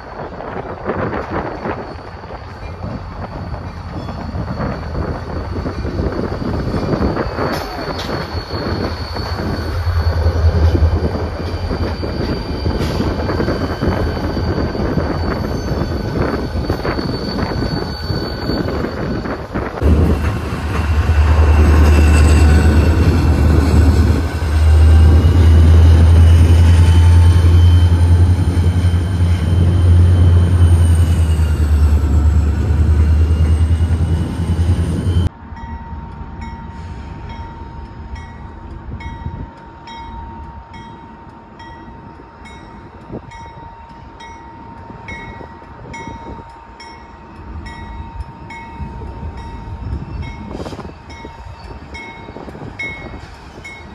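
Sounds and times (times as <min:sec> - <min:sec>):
freight train diesel rumble: 0:00.0 - 0:53.9
wheels squealing on rails: 0:00.0 - 0:53.9
distant train humming: 0:02.2 - 0:53.9.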